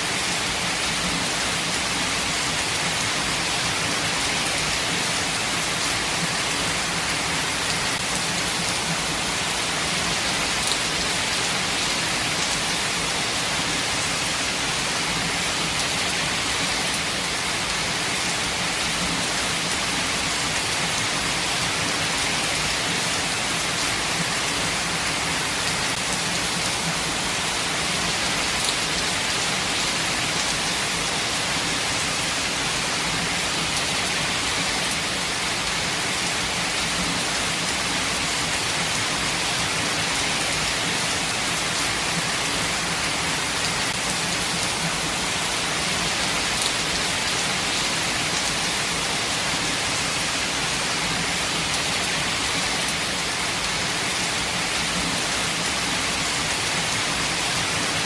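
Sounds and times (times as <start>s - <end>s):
rainfall hiss: 0.0s - 58.0s.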